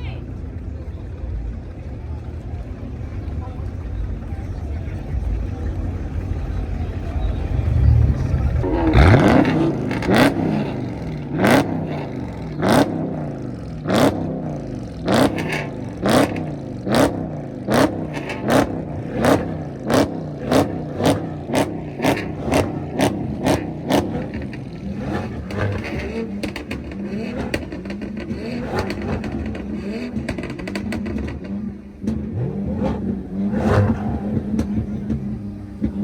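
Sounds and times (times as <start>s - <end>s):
car engine revving blips: 0.6s - 36.0s.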